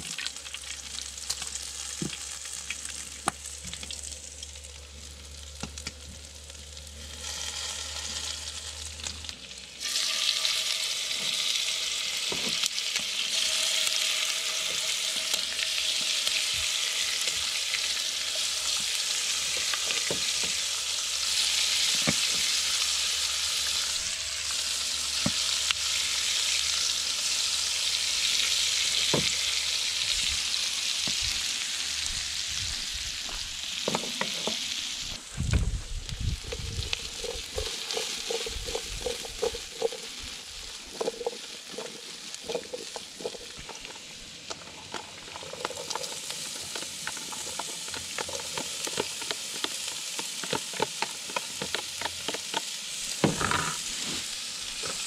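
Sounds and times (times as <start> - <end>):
chicken sizzling in skillet: 0.0 - 55.0.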